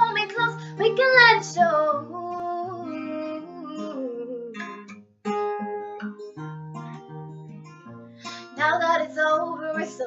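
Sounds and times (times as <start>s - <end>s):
acoustic guitar playing slowly: 0.0s - 10.0s.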